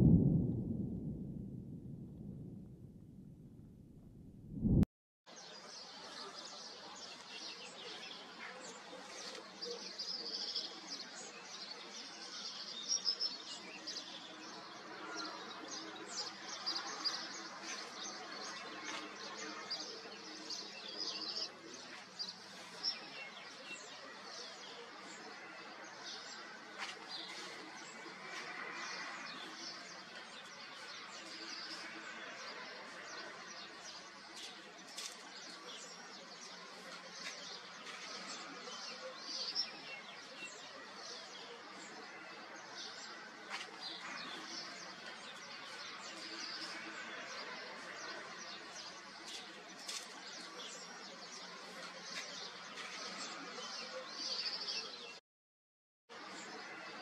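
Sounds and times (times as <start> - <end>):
small birds chirping: 5.4 - 55.2.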